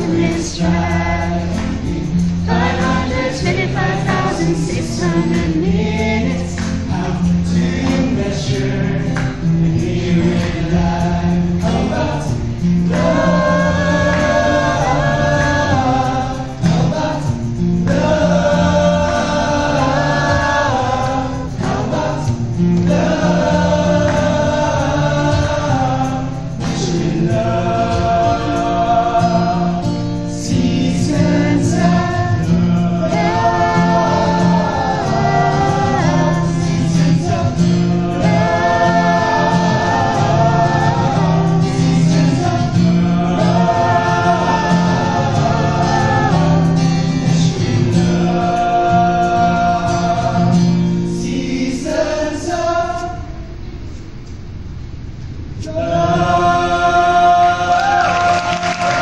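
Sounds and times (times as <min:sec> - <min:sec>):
young men singing in harmony: 0:00.0 - 0:53.4, 0:55.6 - 0:59.0.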